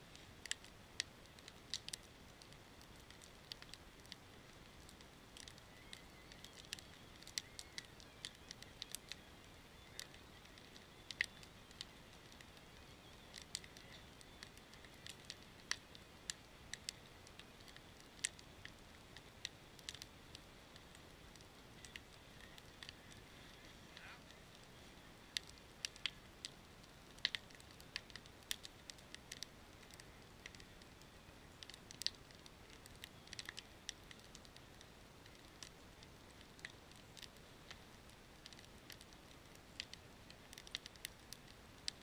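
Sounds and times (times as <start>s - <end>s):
wood fire crackling and popping: 0.0s - 42.0s.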